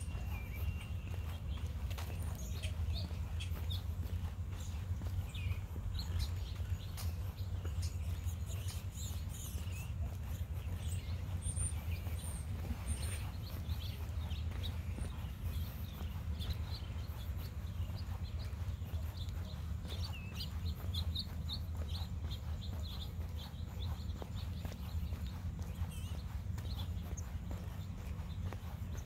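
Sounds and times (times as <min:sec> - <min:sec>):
faint footsteps on path: 0:00.0 - 0:29.0
small birds chirping: 0:00.0 - 0:29.0
steady low rumble: 0:00.0 - 0:29.0.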